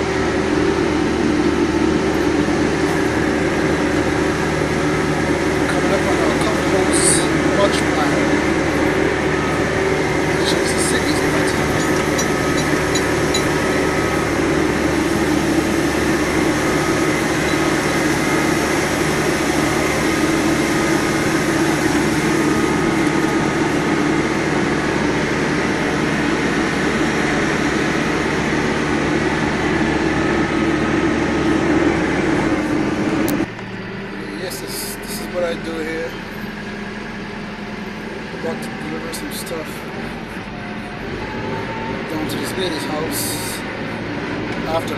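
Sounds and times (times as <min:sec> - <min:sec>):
diesel loader engine running: 0:00.0 - 0:44.9.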